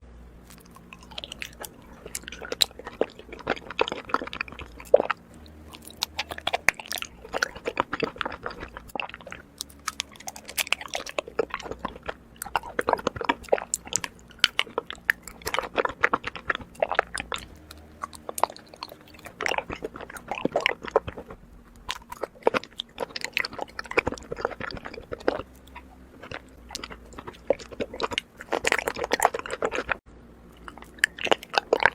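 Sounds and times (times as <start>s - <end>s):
chewing honeycomb: 0.4s - 31.9s.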